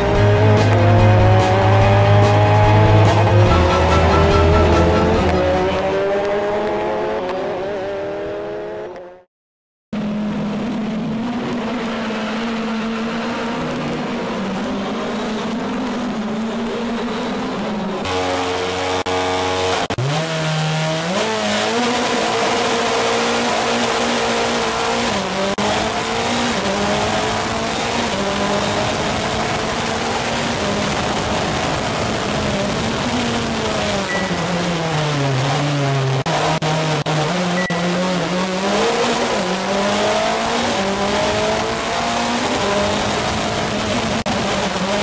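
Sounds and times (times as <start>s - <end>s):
race car engine upshifting: 0.0s - 9.1s, 10.6s - 45.0s
race car engines droning: 0.0s - 9.2s, 10.0s - 45.0s.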